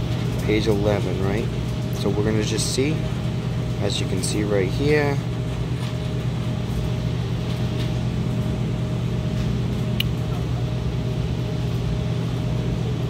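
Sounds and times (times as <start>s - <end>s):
refrigeration machinery humming: 0.0s - 13.0s.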